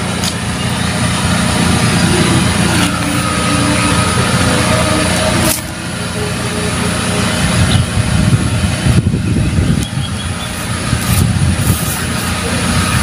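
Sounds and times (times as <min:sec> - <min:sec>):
water pump droning: 0:00.0 - 0:13.0.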